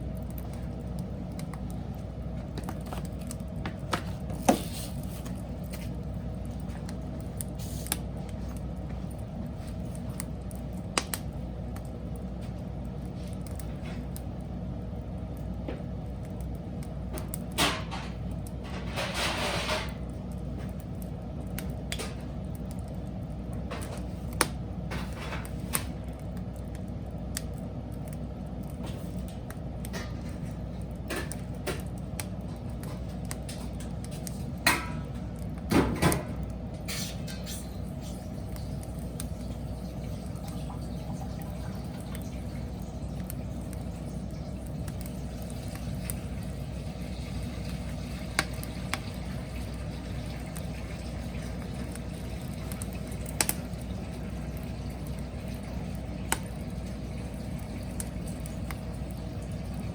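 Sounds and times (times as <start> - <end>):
fire hissing: 0.0 - 14.6, 16.0 - 35.7, 36.3 - 59.9
fire crackling and popping: 0.0 - 59.9
wood fire roaring: 0.0 - 59.9.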